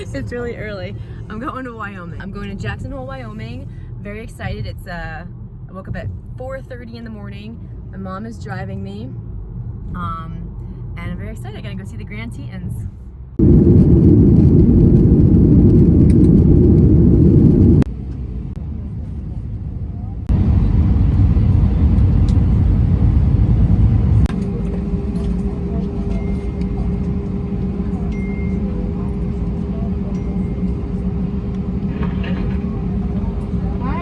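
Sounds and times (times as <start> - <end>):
humming drone: 0.0 - 34.0
low rumbling vehicle travel noise: 0.0 - 34.0.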